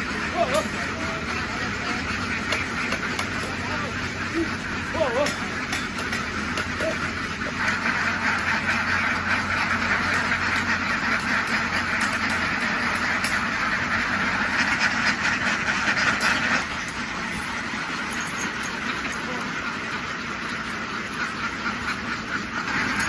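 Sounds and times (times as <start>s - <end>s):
flock of ducks quacking: 0.0s - 23.0s.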